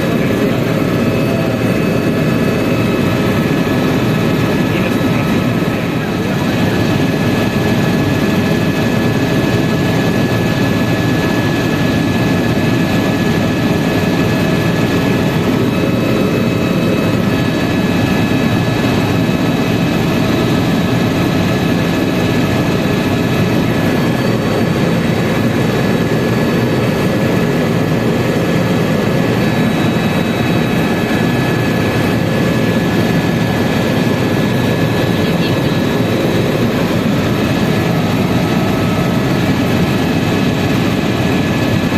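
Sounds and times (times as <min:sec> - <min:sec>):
helicopter engine and rotor noise: 0:00.0 - 0:41.9
high turbine whine: 0:00.0 - 0:41.9.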